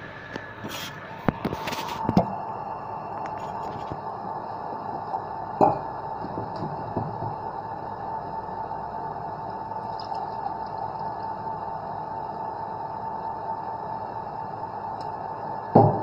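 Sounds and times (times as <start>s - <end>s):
steady high hum: 0.0s - 16.0s.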